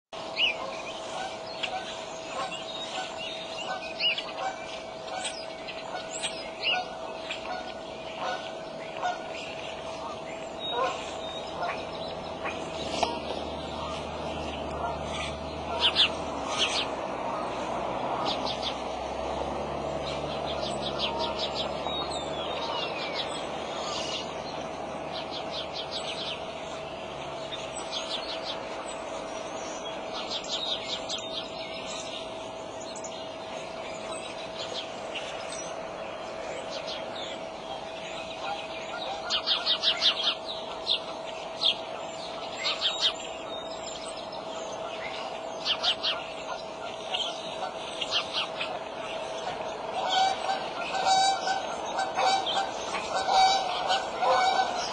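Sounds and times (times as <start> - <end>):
faint hum: 0.2 - 54.9
small birds chirping and trilling: 0.2 - 54.9.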